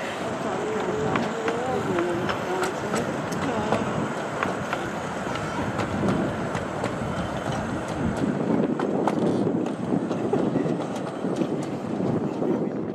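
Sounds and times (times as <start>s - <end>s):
train wheels rumbling: 0.0s - 12.9s
wheels clicking over rail joints: 0.0s - 12.9s.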